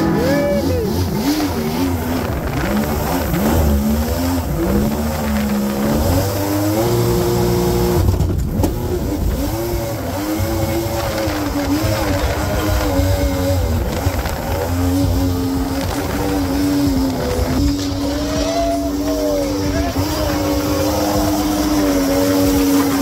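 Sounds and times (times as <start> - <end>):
two-stroke boat engine revving: 0.0 - 23.0.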